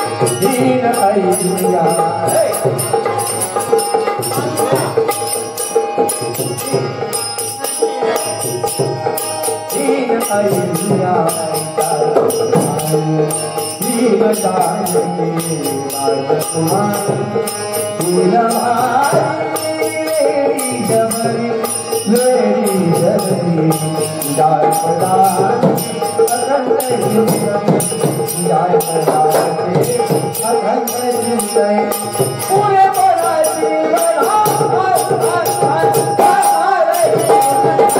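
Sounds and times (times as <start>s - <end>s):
fast jingling percussion: 0.0s - 37.9s
person singing devotional song: 6.7s - 37.9s.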